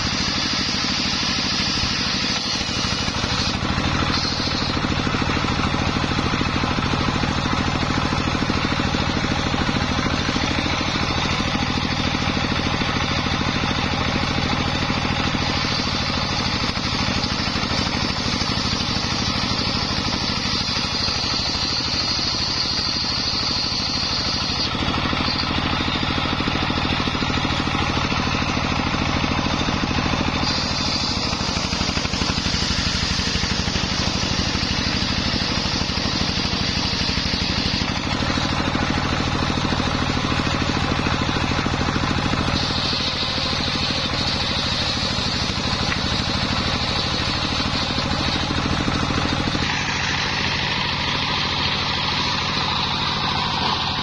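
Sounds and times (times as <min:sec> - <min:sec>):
motor hum: 0:00.0 - 0:54.0
saw blade whine cutting wood: 0:00.0 - 0:54.0.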